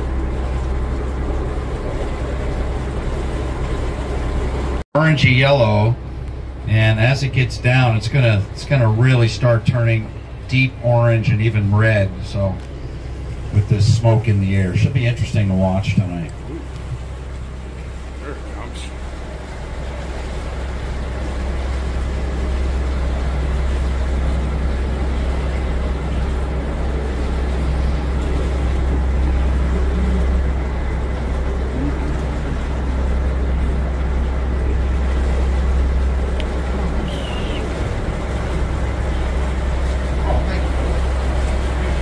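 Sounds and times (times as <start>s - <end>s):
boat engine rumble: 0.0s - 42.0s
water noise: 0.0s - 42.0s.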